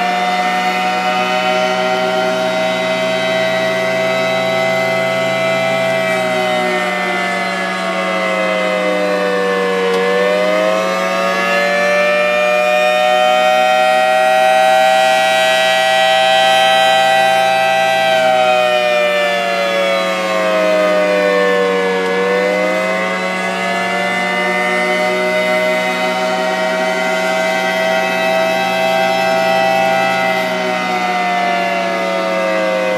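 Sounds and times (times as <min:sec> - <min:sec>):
civil defense siren wailing: 0:00.0 - 0:32.9.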